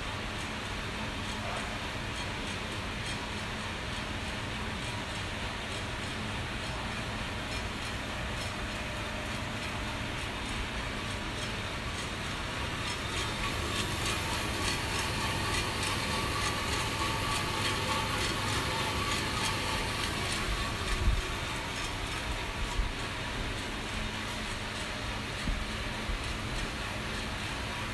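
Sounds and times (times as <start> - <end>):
coffee roaster whirring: 0.0 - 27.9.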